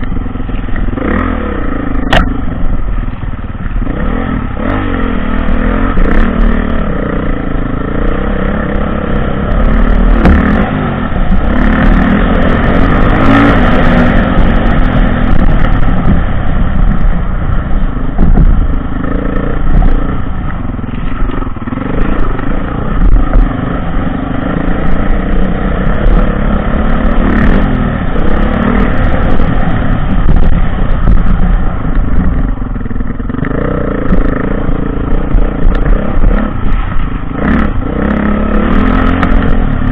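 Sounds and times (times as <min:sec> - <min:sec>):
dirt bike engine revving: 0:00.9 - 0:02.8, 0:03.8 - 0:39.9.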